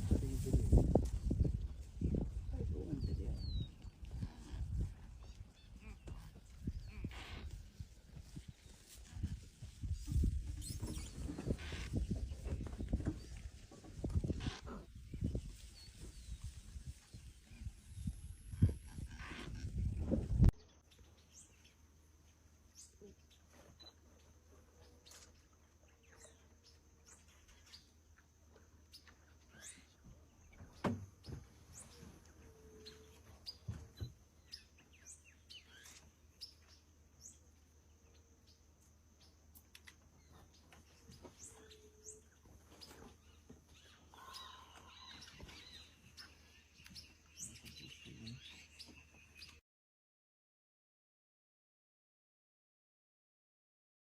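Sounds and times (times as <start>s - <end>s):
birds chirping: 0.2s - 49.6s.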